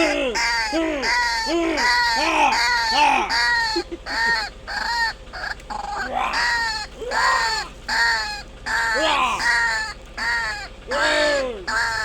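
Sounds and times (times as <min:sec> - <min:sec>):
waterhen calling: 0:00.0 - 0:12.0.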